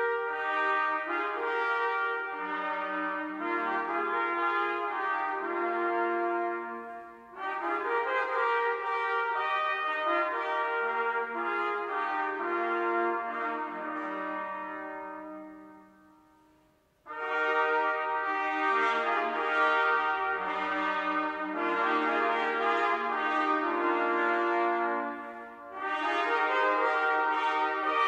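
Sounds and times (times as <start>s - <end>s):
brass choir playing chords: 0.0s - 28.0s.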